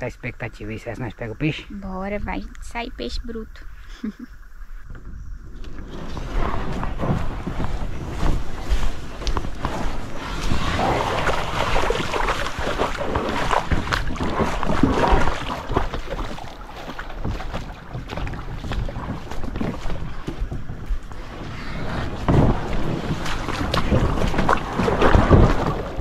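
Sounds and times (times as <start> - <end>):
wind rumbling on microphone: 0.0 - 26.0
water splashing against hull: 4.6 - 26.0.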